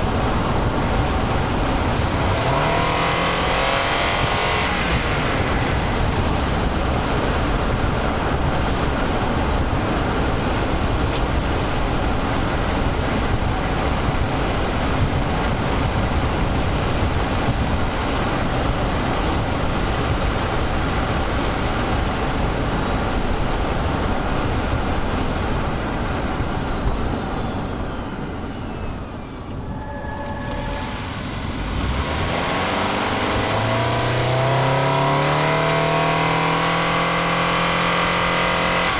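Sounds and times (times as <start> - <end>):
road and tyre roar in car: 0.0 - 38.9.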